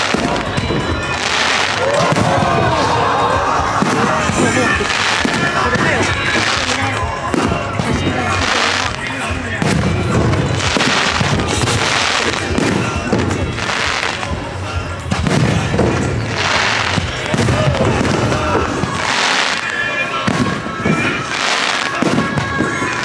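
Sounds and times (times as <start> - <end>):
fireworks bursting with hiss: 0.0 - 23.0
show music over loudspeakers: 0.0 - 23.0.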